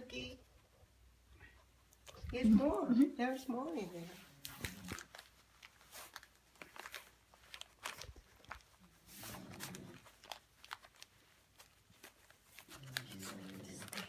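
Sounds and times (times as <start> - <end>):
wrapping paper crinkling: 2.0 - 14.0.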